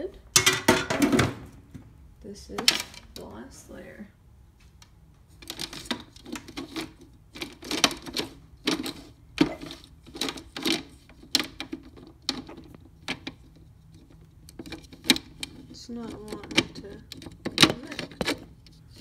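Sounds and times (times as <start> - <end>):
plastic trays clicking and knocking: 0.4 - 1.5, 2.6 - 3.2, 5.4 - 19.0.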